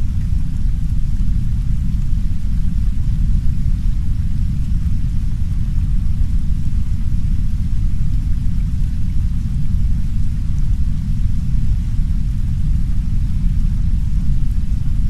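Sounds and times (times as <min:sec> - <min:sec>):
deep brown noise rumble: 0:00.0 - 0:15.0
soft rain hiss: 0:00.0 - 0:15.0.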